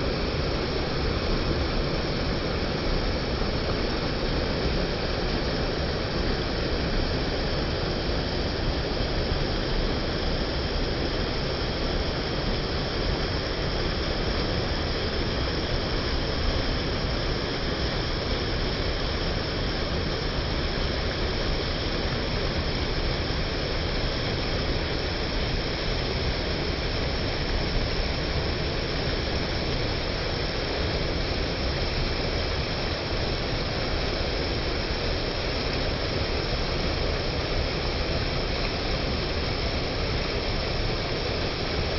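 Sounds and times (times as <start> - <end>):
mountain creek rushing: 0.0 - 41.9.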